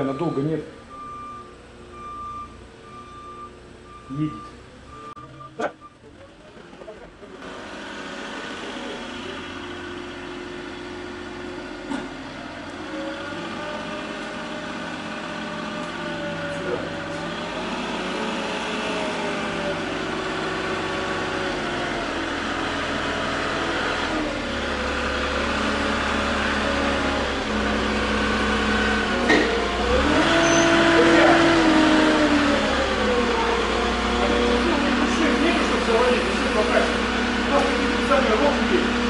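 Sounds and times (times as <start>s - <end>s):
forklift engine running: 0.0s - 39.0s.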